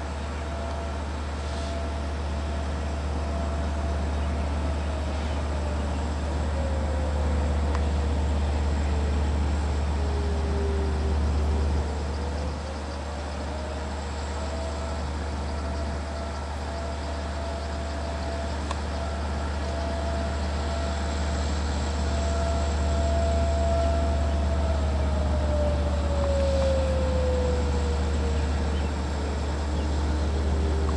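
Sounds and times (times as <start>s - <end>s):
diesel locomotive idling: 0.0s - 30.9s.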